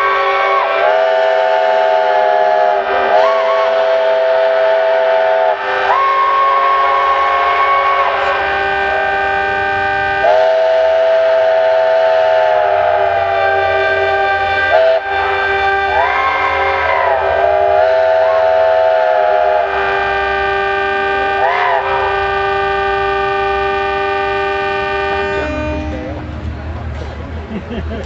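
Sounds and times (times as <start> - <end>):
locomotive horns blasting: 0.0 - 27.3.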